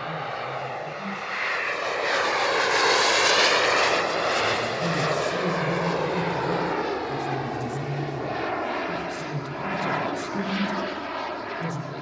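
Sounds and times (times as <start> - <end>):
jet engine roar with high whine: 0.0 - 12.0.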